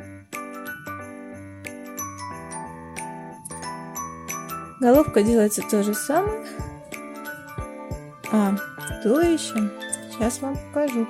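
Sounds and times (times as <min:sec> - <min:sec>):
bell-like mallet percussion music: 0:00.4 - 0:11.0.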